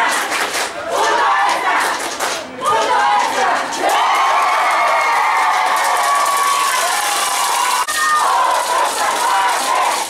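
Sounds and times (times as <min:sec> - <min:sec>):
crowd shouting and cheering: 0:00.0 - 0:10.0.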